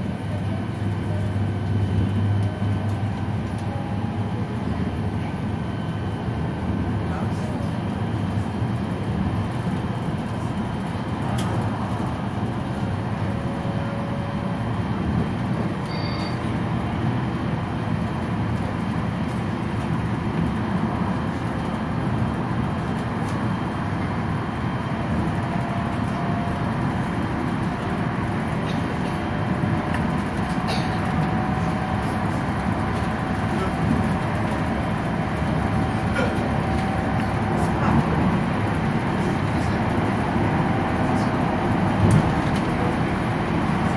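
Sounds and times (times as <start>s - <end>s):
wheels rumbling on rail: 0.0s - 43.9s.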